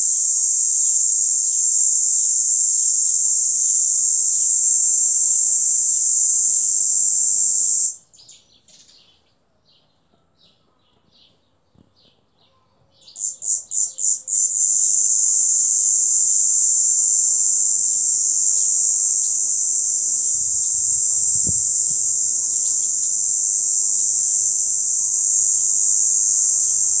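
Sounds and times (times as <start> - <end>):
cicada buzzing: 0.0 - 8.0, 13.2 - 27.0.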